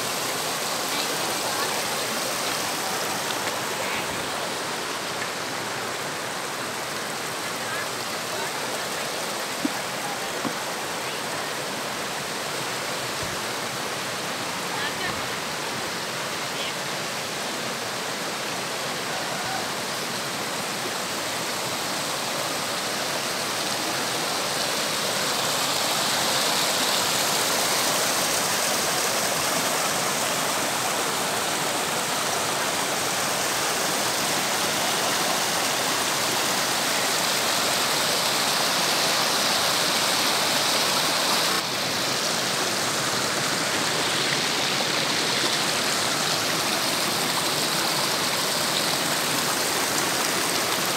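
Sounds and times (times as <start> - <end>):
stream running over rocks: 0.0 - 50.9.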